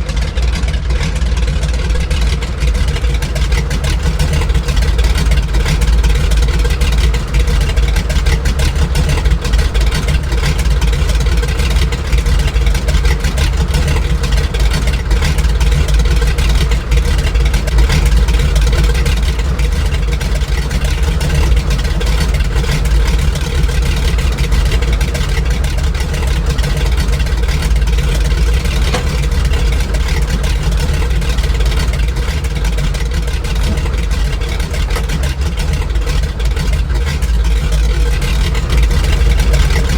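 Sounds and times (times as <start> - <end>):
aircraft radial engines droning: 0.0 - 39.9.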